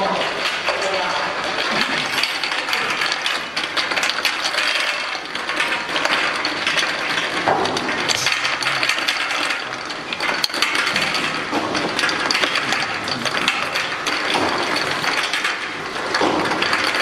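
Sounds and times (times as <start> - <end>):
plastic bottles clattering: 0.1 - 17.0.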